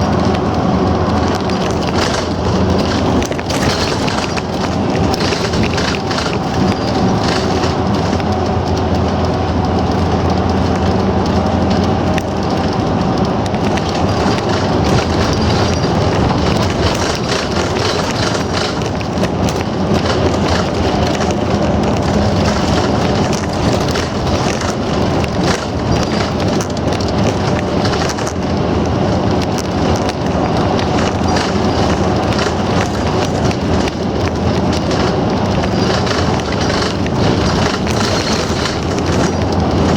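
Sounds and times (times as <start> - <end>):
bus engine and tyre drone: 0.0 - 39.9
small rattles and clicks: 0.0 - 39.9.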